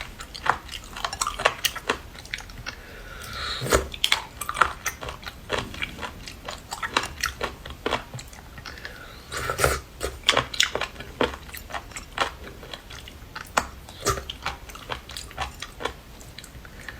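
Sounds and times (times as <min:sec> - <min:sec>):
person chewing seafood: 0:00.0 - 0:16.9.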